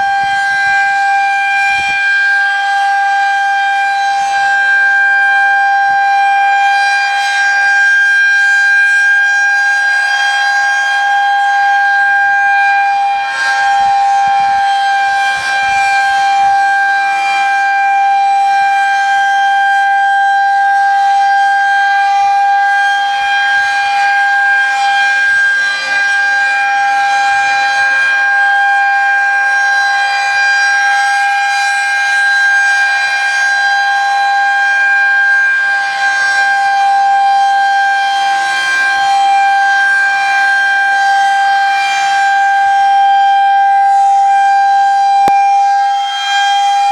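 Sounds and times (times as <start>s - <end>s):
tornado warning siren steady pitch: 0.0s - 46.9s.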